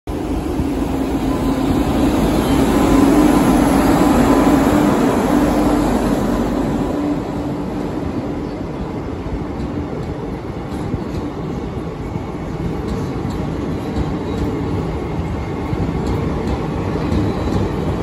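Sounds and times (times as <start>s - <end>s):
train passing: 0.1s - 18.0s.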